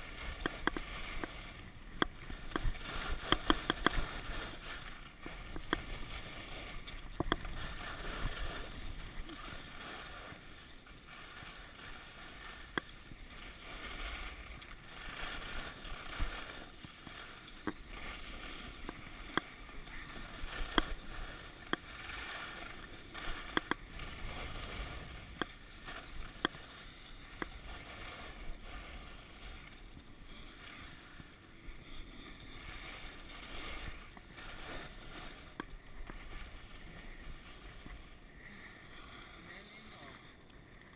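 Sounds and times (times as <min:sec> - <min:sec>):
skis scraping over snow: 0:00.0 - 0:40.9.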